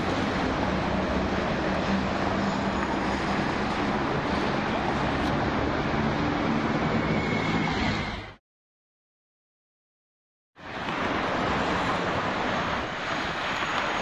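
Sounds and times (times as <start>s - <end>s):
street traffic: 0.0s - 8.4s, 10.6s - 14.0s.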